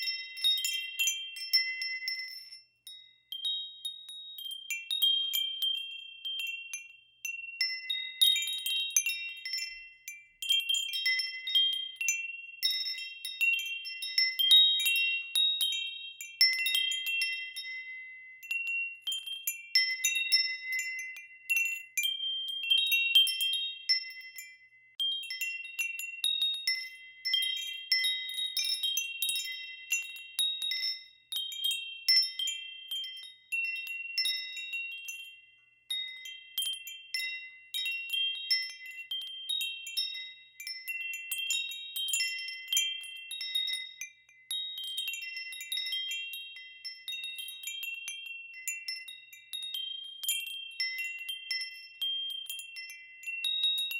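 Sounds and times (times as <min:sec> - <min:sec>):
wind chimes ringing: 0:00.0 - 0:53.9.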